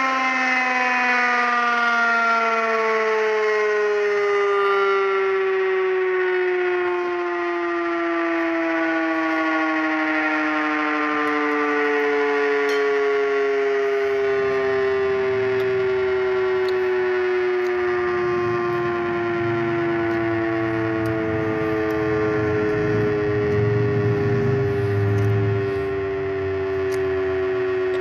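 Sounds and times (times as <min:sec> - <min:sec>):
tornado siren falling tone: 0:00.0 - 0:28.0.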